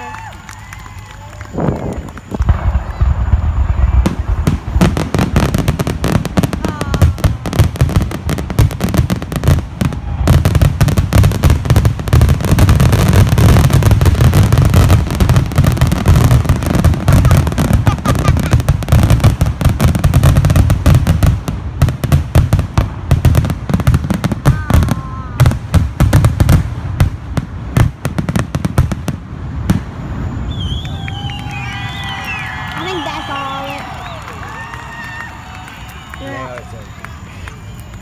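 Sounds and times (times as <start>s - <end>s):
fireworks whistling: 0.0s - 21.3s, 28.2s - 38.0s
fireworks bangs and crackling: 0.0s - 38.0s.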